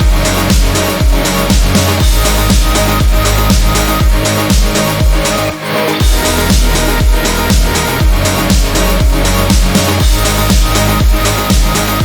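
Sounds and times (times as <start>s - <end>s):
bass line: 0.0s - 12.0s
full chords: 0.0s - 12.0s
hi-hat and snare hits: 0.0s - 12.0s
kick drum: 0.0s - 12.0s.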